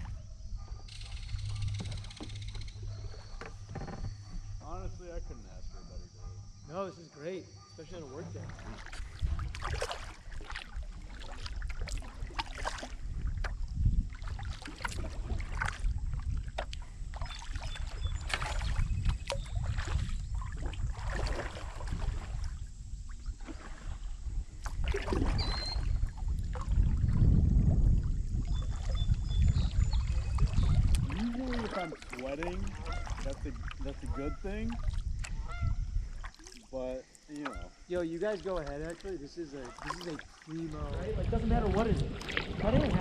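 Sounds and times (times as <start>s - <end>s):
paddle splashing in water: 0.0s - 4.7s, 7.8s - 43.0s
wind rumble on microphone: 0.0s - 6.7s, 8.5s - 36.4s, 37.6s - 43.0s.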